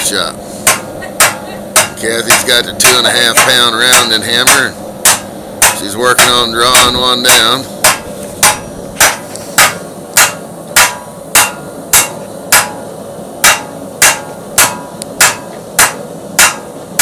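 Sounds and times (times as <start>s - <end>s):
hammer striking hot steel on anvil: 0.0s - 17.0s.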